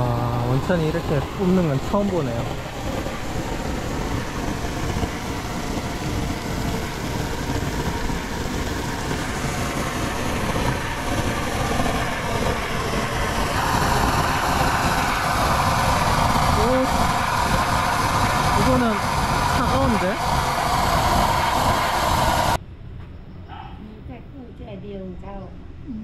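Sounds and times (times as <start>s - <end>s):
geyser jetting water: 0.0s - 22.6s.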